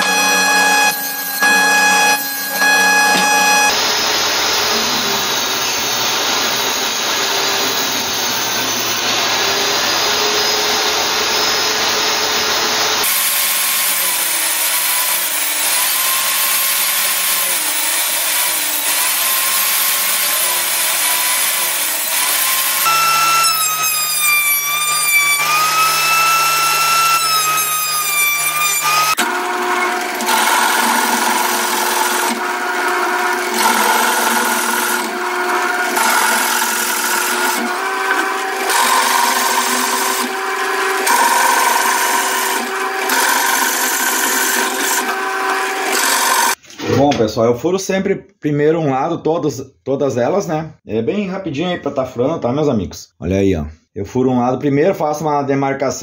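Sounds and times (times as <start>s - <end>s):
drill press running: 0.0s - 46.6s
table saw cutting wood: 0.0s - 46.6s.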